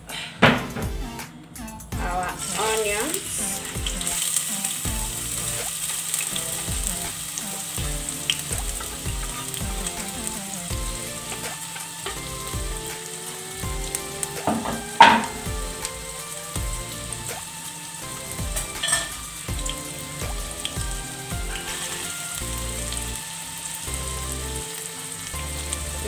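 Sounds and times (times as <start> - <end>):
onion sizzling in hot oil: 2.0 - 26.0.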